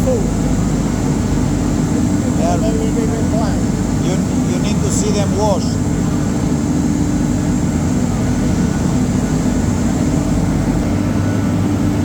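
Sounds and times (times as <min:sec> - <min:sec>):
mill machinery humming: 0:00.0 - 0:12.0.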